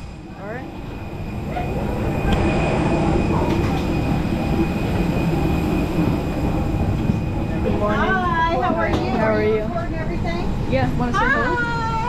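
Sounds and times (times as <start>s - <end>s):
aircraft and machinery rumble: 0.0s - 12.0s
thin high whine: 0.0s - 12.0s.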